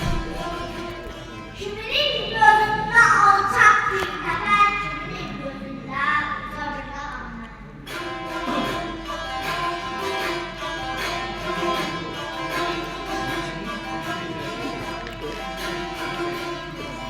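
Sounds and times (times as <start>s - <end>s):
plucked long-necked lute: 0.0s - 5.1s, 7.7s - 17.0s.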